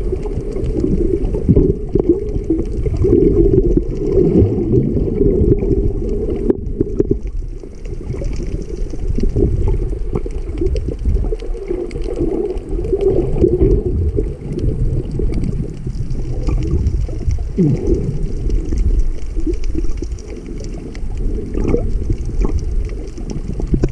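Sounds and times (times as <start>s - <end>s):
faint clicks and crackles: 0.0s - 23.9s
muffled underwater rumble: 0.0s - 23.9s.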